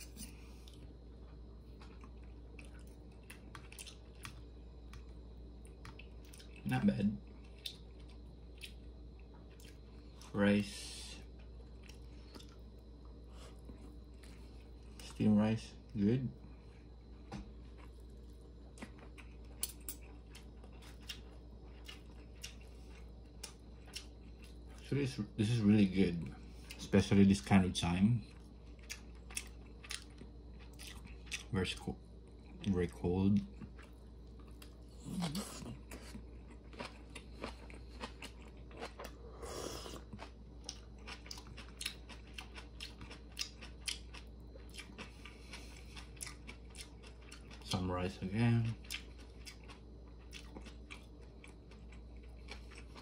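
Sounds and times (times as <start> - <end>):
chewing rice: 0.0 - 53.0.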